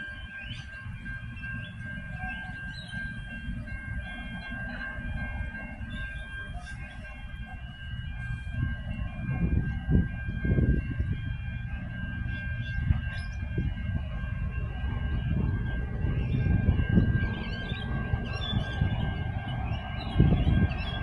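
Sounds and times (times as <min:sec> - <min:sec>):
low train rumble: 0:00.0 - 0:21.0
train wheels squealing: 0:00.0 - 0:21.0.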